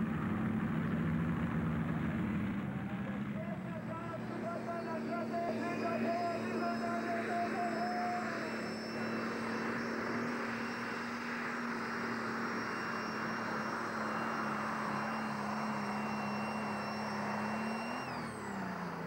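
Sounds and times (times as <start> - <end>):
high engine whine: 0.0 - 19.0
tractor diesel engine under load: 0.0 - 19.0.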